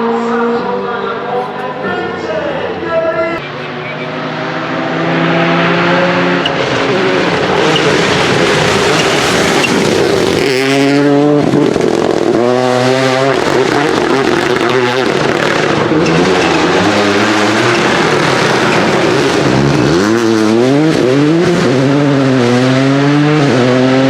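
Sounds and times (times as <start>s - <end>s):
rally car engine at high revs: 0.0s - 24.0s.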